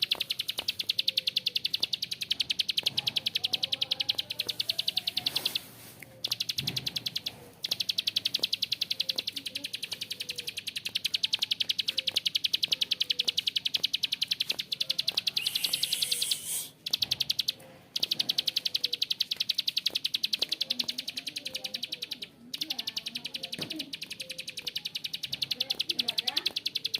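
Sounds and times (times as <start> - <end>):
bird rattling trill: 0.0 - 26.9.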